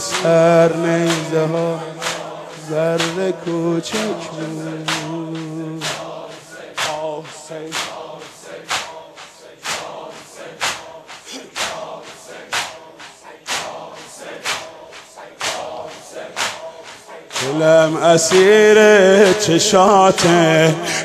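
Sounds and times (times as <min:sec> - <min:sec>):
crowd chanting faintly: 0:00.0 - 0:18.6
people beating their chests in unison: 0:00.0 - 0:21.0.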